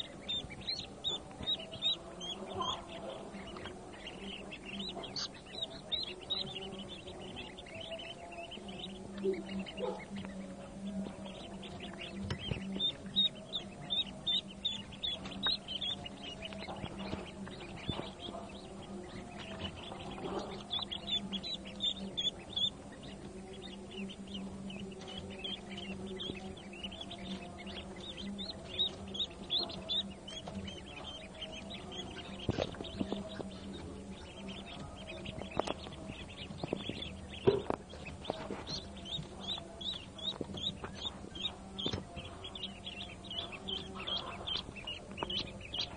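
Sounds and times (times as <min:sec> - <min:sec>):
ducklings peeping: 0:00.0 - 0:45.9.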